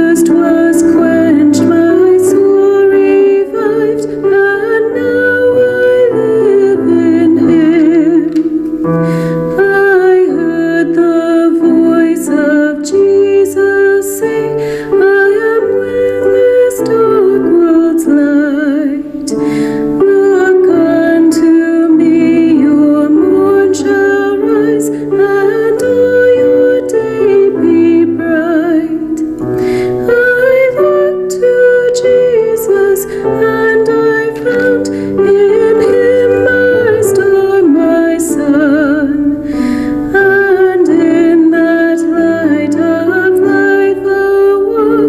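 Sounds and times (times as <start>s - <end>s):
keyboard accompaniment: 0.0s - 45.0s
woman singing a slow hymn: 0.0s - 45.0s.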